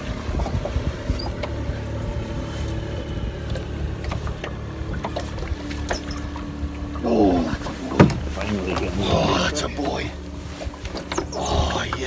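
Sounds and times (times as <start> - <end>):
boat rumbling on water: 0.0 - 12.0.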